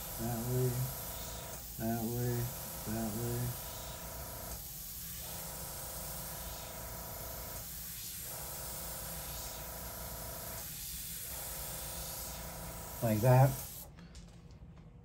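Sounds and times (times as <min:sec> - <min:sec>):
airbrush spraying hiss: 0:00.0 - 0:13.9.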